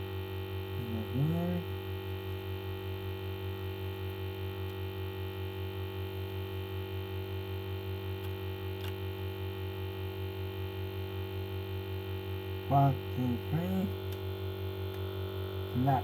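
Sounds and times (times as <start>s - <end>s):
pulsing electrical hum: 0.0s - 16.0s.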